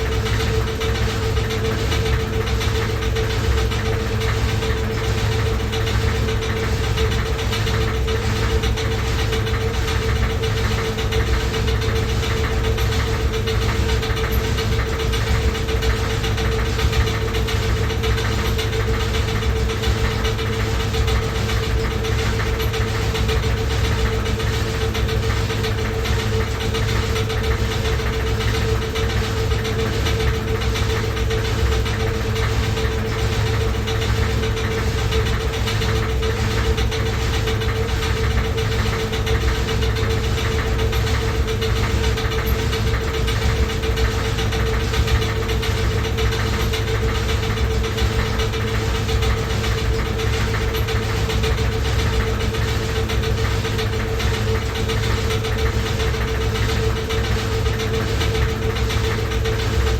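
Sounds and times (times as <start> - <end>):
knocking rattle: 0.0 - 59.9
washing machine running: 0.0 - 59.9.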